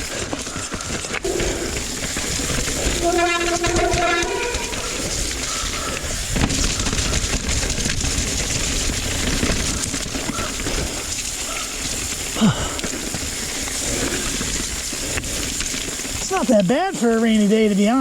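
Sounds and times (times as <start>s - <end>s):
bike tyre and frame rattle: 0.0s - 18.0s.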